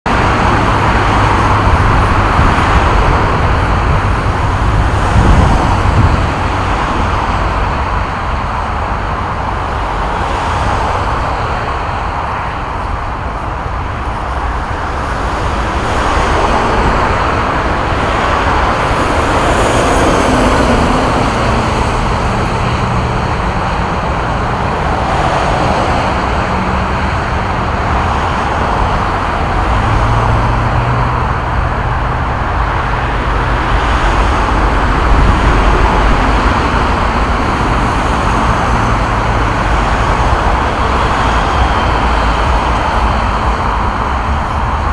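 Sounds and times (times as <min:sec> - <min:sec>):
deep heavy vehicle engine hum: 0:00.0 - 0:44.9
vehicles passing at speed: 0:00.0 - 0:44.9.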